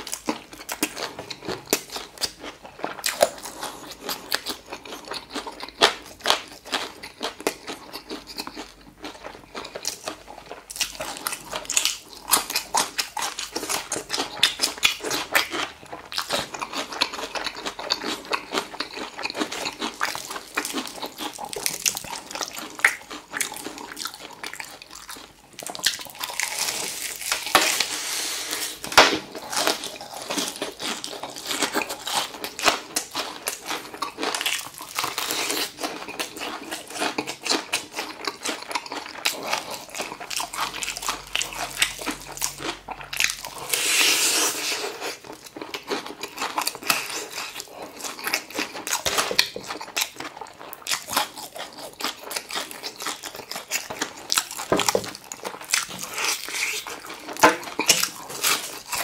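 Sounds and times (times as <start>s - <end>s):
crunching fried chicken: 0.0s - 59.0s.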